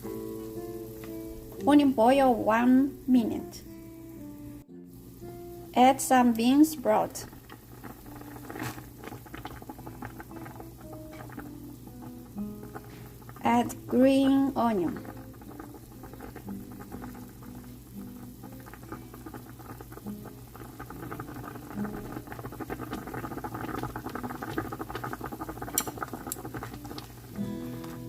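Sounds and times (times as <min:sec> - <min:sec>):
broth bubbling at a rolling boil: 0:04.9 - 0:28.0.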